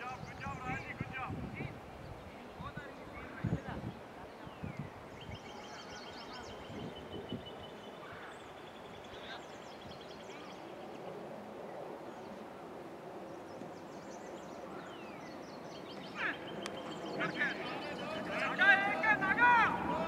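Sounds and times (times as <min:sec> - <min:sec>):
birds chirping: 0:00.0 - 0:20.0
outdoor background noise: 0:00.0 - 0:20.0.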